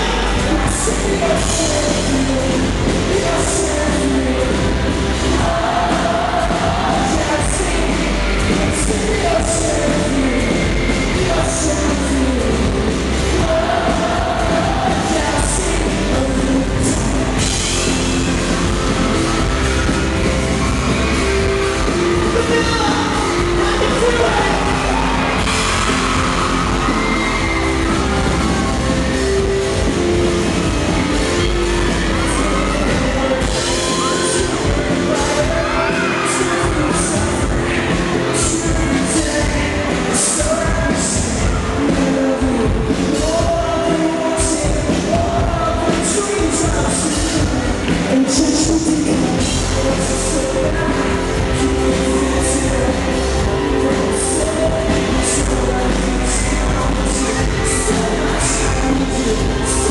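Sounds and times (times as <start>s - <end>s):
drums: 0.0s - 59.9s
electric guitars: 0.0s - 59.9s
keyboard: 0.0s - 59.9s
man singing: 0.0s - 59.9s.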